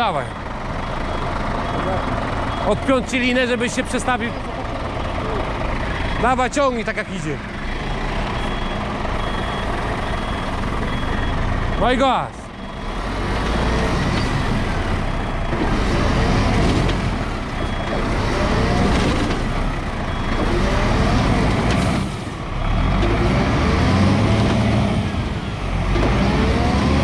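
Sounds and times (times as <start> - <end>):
vehicle engines revving hard: 1.4 - 27.0.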